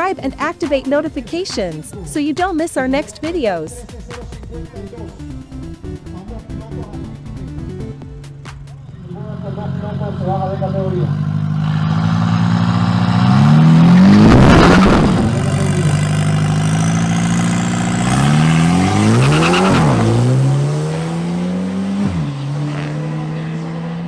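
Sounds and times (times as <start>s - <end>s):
cars accelerating hard: 4.6s - 24.0s.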